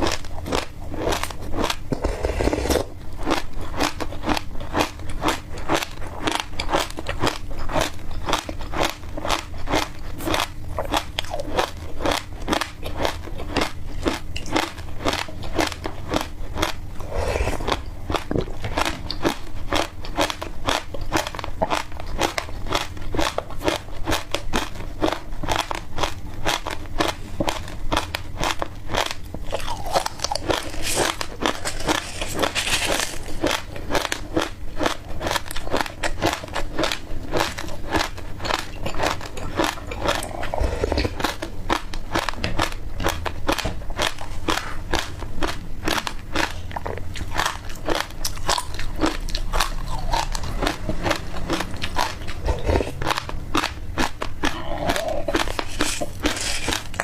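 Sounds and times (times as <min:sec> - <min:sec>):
chewing crunchy seeds: 0:00.0 - 0:57.0.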